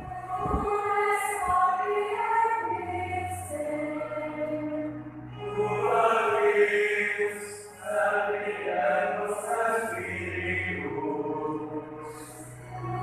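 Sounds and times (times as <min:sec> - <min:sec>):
choir singing a chant: 0:00.0 - 0:13.0.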